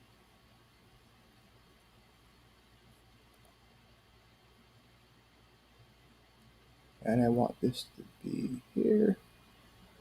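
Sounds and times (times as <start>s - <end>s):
faint microphone hiss: 0.0s - 10.0s
low steady hum: 0.0s - 10.0s.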